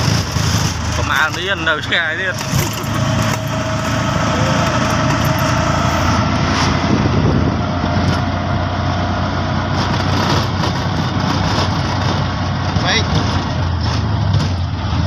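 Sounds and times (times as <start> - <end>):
small engine running: 0.0 - 12.1
road rumble on dirt road: 0.0 - 15.0.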